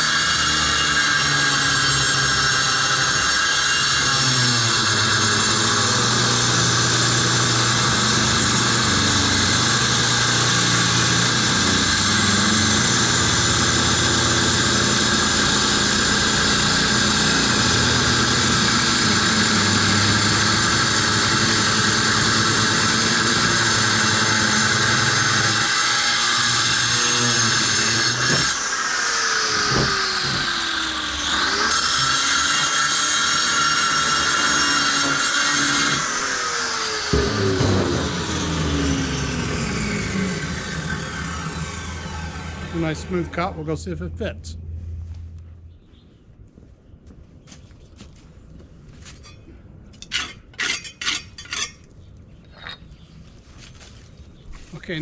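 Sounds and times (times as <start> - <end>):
electric saw cutting paver: 0.0 - 45.4.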